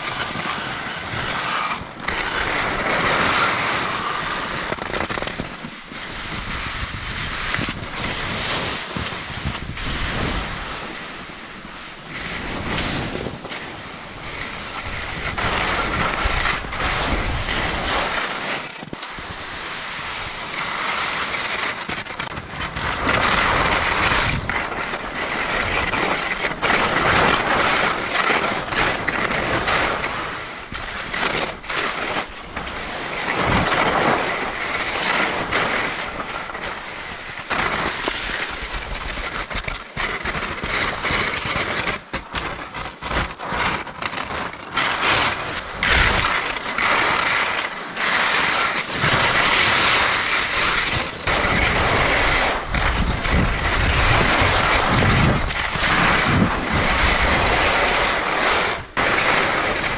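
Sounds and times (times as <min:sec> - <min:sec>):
wind gusting over microphone: 0:00.0 - 0:21.2, 0:22.0 - 0:41.4, 0:44.8 - 0:59.9.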